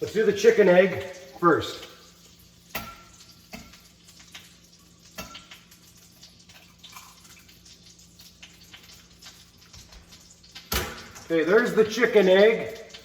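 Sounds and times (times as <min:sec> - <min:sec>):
egg sizzling in a pan: 0:00.0 - 0:13.0.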